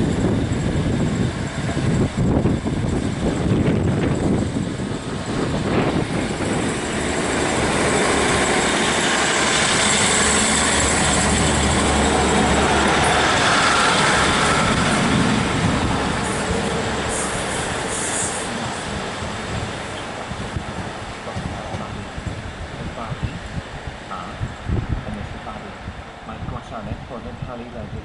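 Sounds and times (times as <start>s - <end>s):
diesel engines humming: 0.0s - 27.9s
train carriages rolling: 0.1s - 23.5s.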